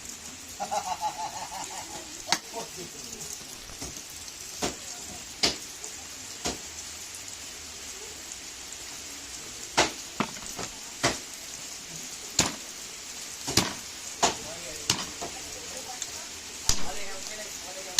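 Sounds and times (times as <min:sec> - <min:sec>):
steady hiss of rain: 0:00.0 - 0:17.9.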